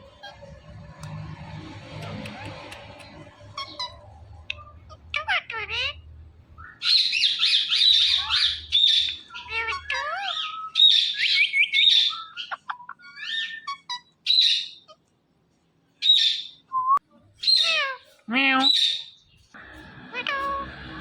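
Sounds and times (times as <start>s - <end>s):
parrot chirping and squawking: 0.0s - 15.1s, 16.0s - 16.6s, 17.4s - 21.0s.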